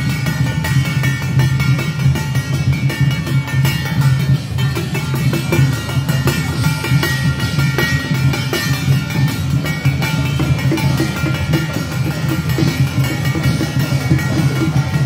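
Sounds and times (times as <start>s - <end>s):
drums beating steady rhythm: 0.0s - 15.0s.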